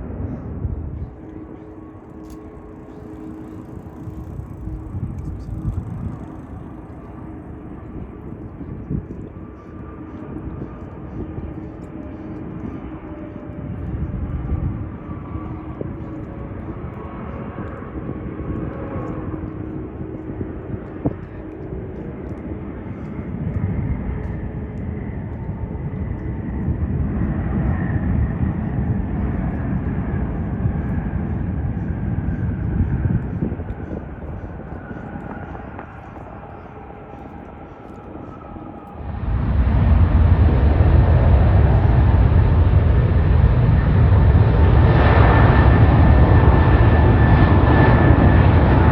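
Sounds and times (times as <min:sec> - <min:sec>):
jet airliner engines rumbling: 0:00.0 - 0:48.9.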